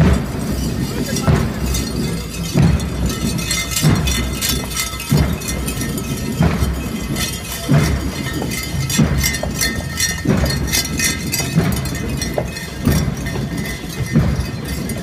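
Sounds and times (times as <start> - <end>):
drum beat: 0.0 - 15.0.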